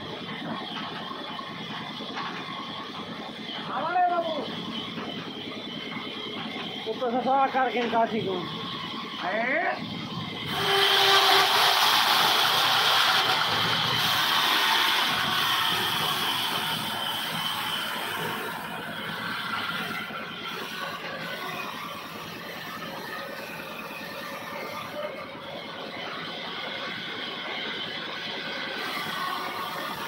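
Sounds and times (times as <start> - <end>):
band saw whining through log: 0.0 - 30.0.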